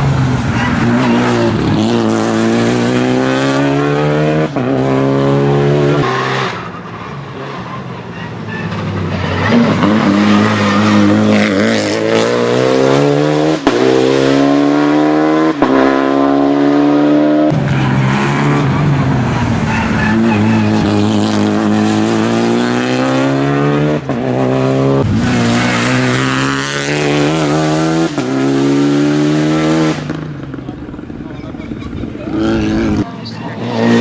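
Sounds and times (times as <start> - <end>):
car engine accelerating hard: 0.0 - 6.6, 9.2 - 34.0.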